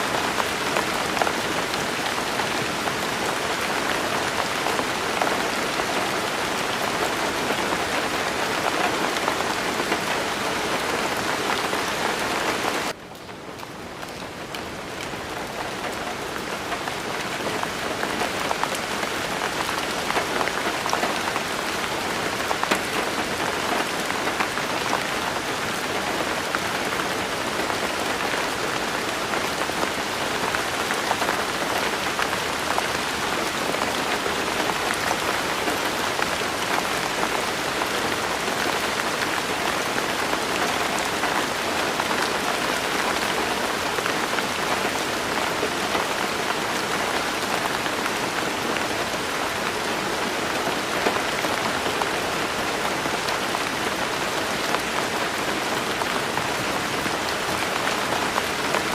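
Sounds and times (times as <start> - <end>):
rain drops ticking: 0.1 - 58.9.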